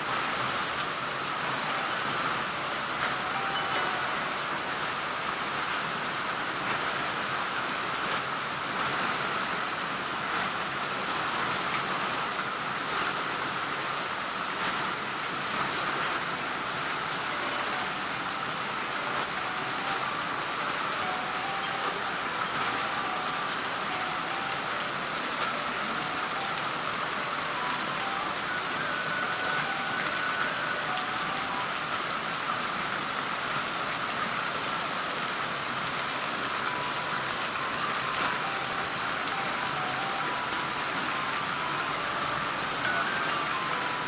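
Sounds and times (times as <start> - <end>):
heavy rain hiss: 0.0 - 44.0.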